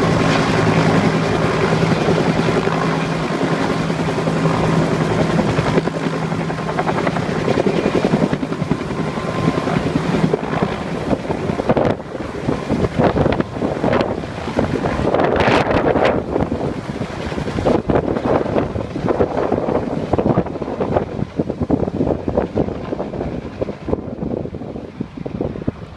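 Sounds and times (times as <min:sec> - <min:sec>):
helicopter drone: 0:00.0 - 0:25.9
wind buffeting microphone: 0:00.0 - 0:25.9.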